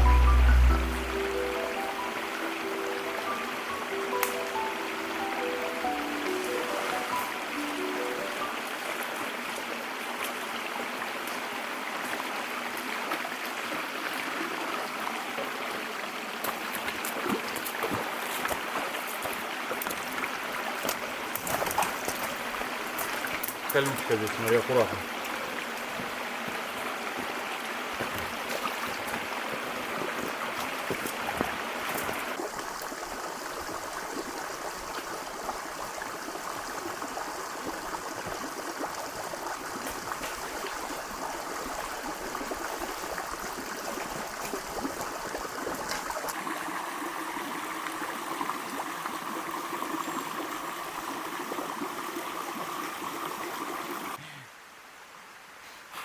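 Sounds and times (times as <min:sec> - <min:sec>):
stream rushing over rocks: 0:00.0 - 0:54.8.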